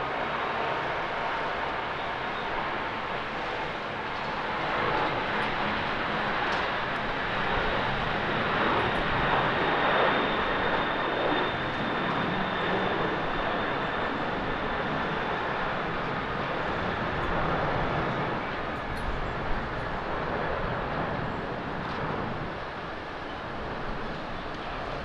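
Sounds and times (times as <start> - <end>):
jet airliner engines roaring: 0.0 - 25.0.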